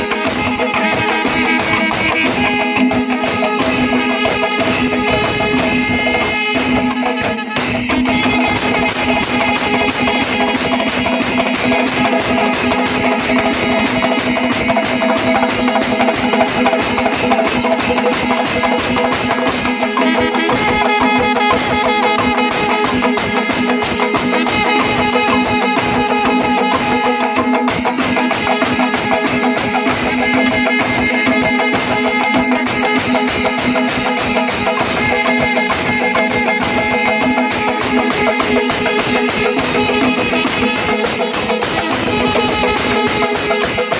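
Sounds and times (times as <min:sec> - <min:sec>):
drums and cymbals beating: 0:00.0 - 0:43.9
held wind instrument tone: 0:00.0 - 0:43.9.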